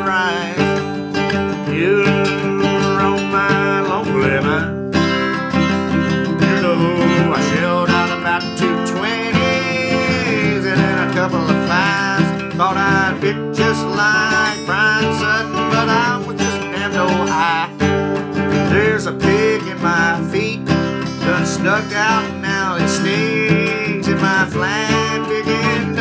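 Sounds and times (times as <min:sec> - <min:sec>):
acoustic guitar strummed hard: 0:00.0 - 0:26.0
man singing: 0:00.0 - 0:26.0.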